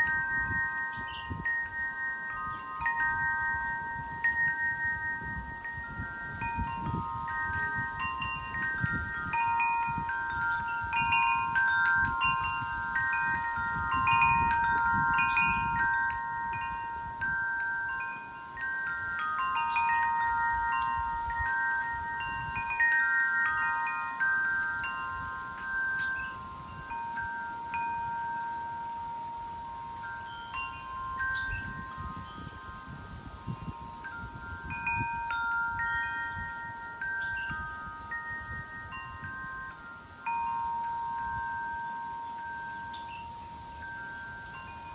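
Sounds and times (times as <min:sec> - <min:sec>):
wind chimes ringing: 0:00.0 - 0:44.9.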